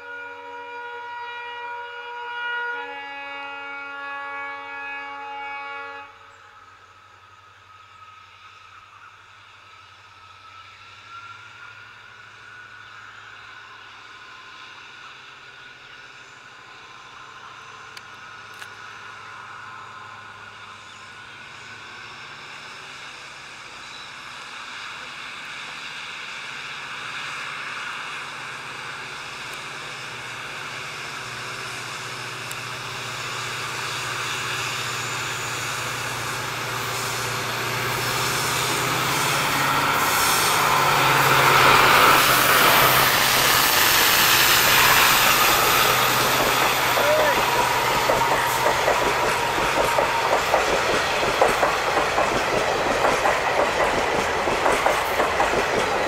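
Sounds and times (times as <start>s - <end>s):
diesel locomotive engine drone: 0.0s - 56.0s
train wheels rumbling: 6.4s - 56.0s.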